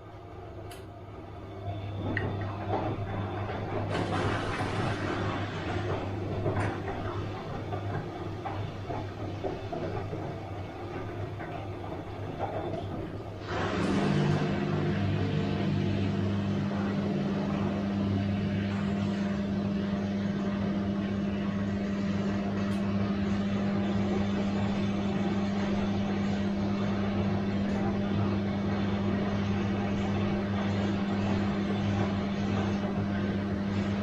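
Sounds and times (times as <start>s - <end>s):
washing machine humming: 0.0s - 34.0s.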